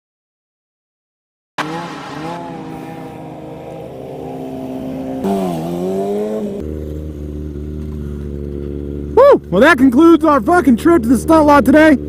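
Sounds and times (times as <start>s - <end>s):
motorcycle engine revving: 1.6s - 12.0s.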